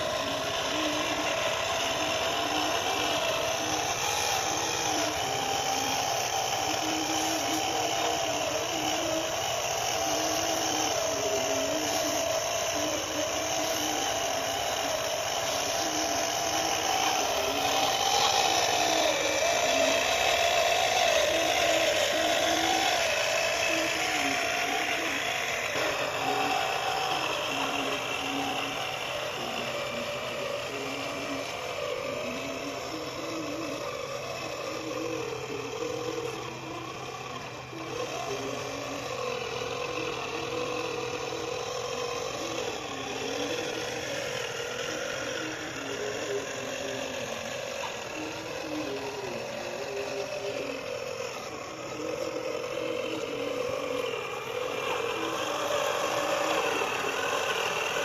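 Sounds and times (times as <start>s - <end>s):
electric motor whirring whine: 0.0s - 58.0s.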